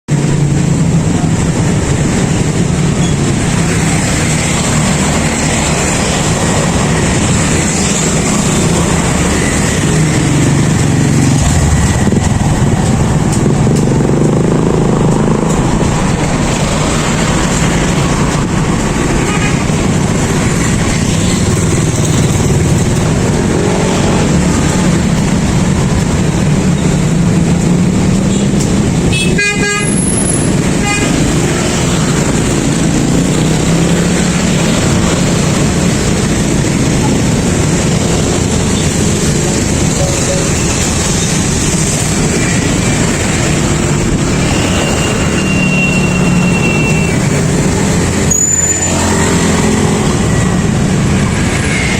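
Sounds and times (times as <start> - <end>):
traffic engines droning: 0.0 - 51.9.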